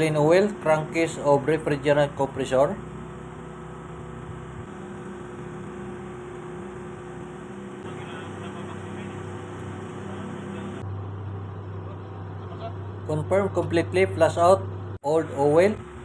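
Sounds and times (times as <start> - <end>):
ship machinery humming: 0.0 - 16.0.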